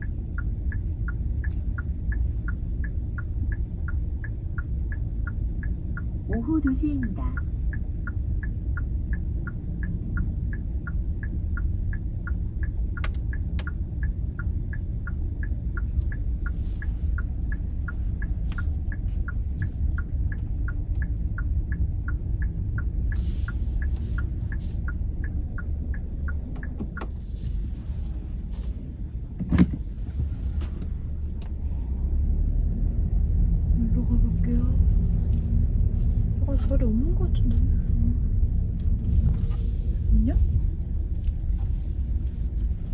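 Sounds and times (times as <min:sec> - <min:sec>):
engine and road rumble: 0:00.0 - 0:42.9
turn signal ticking: 0:00.0 - 0:42.9.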